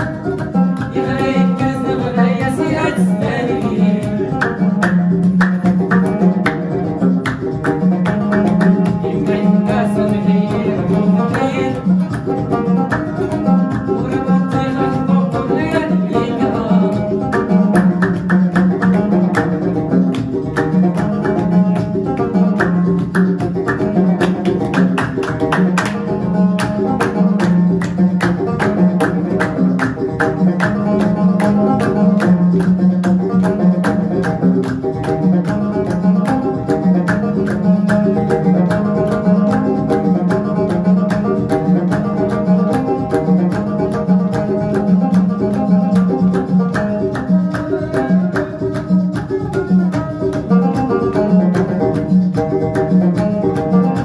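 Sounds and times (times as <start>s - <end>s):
banjo plucked notes: 0.0s - 54.0s
hands clapping: 0.0s - 54.0s.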